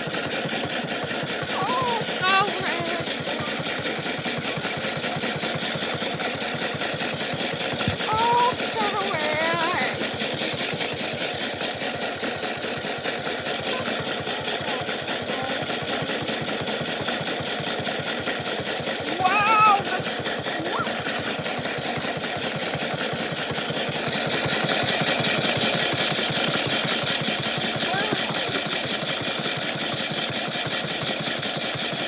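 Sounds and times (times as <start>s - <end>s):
rock rattling in washing machine: 1.2s - 29.7s.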